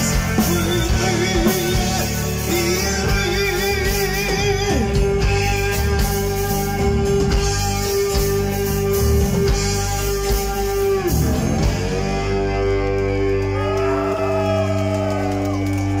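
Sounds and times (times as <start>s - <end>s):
bent wavering guitar notes: 0.0s - 16.0s
metal band playing: 0.0s - 16.0s.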